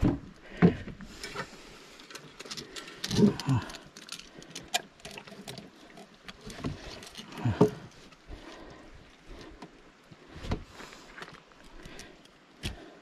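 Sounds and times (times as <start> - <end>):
water sloshing: 0.0 - 12.1.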